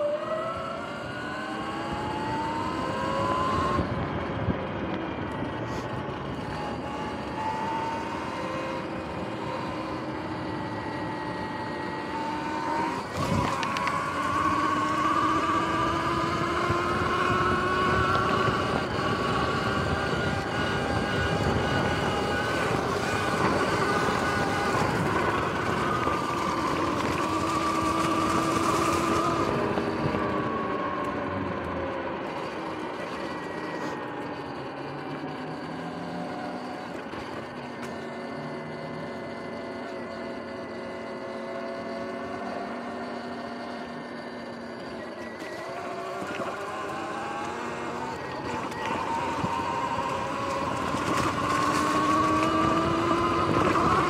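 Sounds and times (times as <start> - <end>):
electric motor and chain whining: 0.0 - 54.0.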